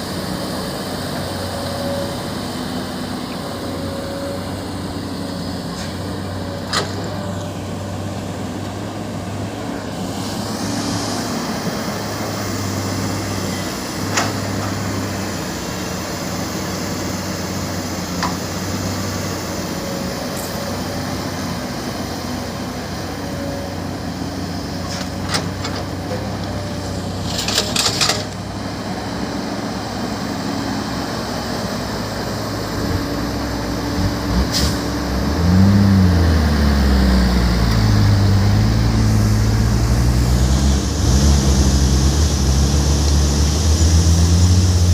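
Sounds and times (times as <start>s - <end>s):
diesel construction machinery running: 0.0s - 44.9s.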